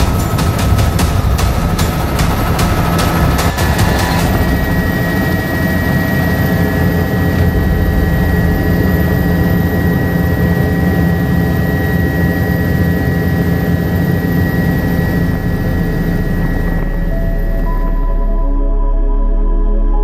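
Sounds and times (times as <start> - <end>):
helicopter rotor rumble: 0.0 - 18.4
helicopter turbine whine: 0.0 - 18.6.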